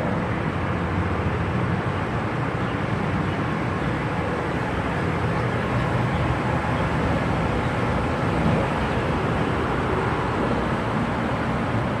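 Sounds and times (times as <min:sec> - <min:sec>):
boat engine droning: 0:00.1 - 0:12.0.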